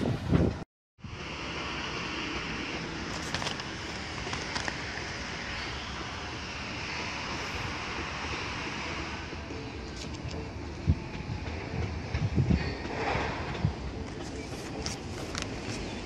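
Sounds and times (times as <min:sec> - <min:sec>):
outdoor rumble and hiss: 0:00.0 - 0:16.0.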